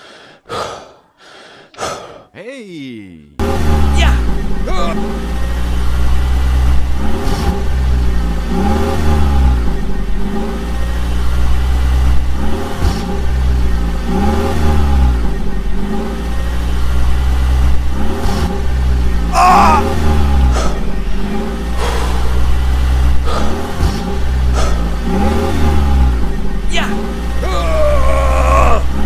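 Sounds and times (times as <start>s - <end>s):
vehicle engine revving: 3.4s - 29.0s.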